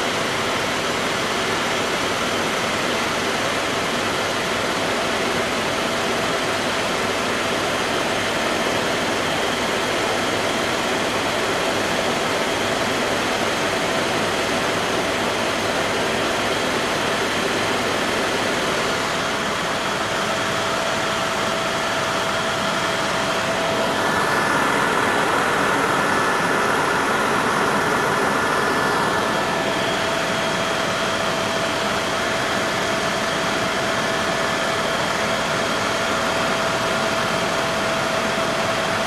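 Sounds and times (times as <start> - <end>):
helicopter cabin engine noise: 0.0 - 39.0.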